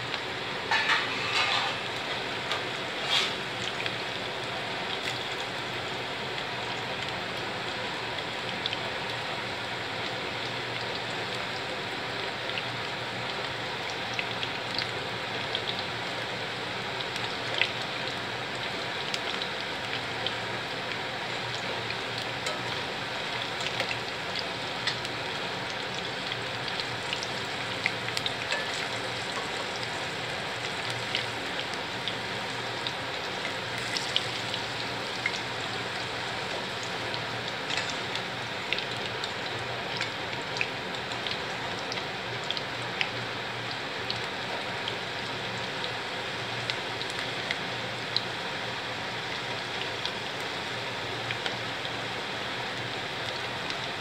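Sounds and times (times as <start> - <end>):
fritters sizzling in hot oil: 0.0 - 54.0.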